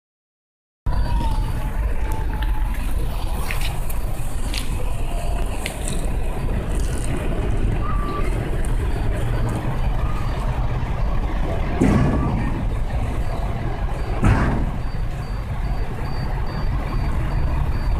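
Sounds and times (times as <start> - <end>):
street traffic rumble: 0.9 - 17.9
vehicle engine running: 0.9 - 17.9.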